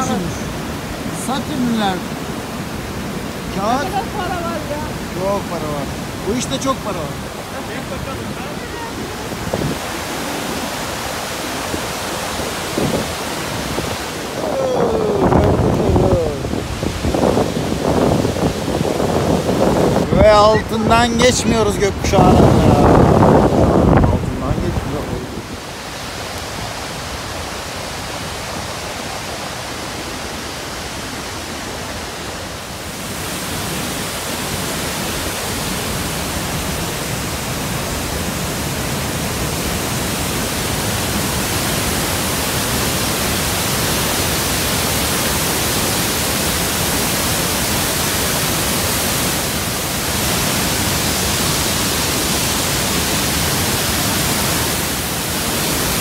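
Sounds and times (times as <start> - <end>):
heavy falling water rushing: 0.0 - 56.0.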